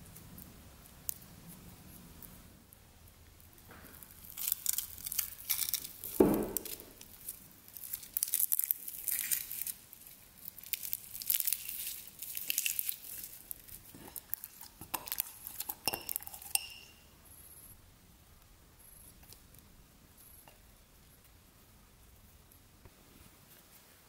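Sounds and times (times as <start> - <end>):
sugar crust crackling: 0.0 - 17.2, 18.3 - 23.8.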